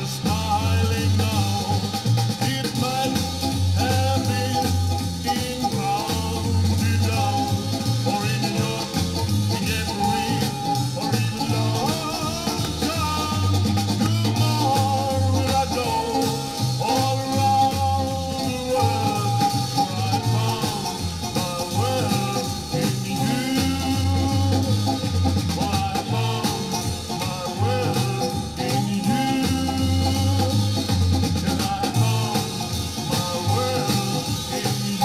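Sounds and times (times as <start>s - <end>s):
pop-rock band music from vinyl: 0.0s - 35.0s.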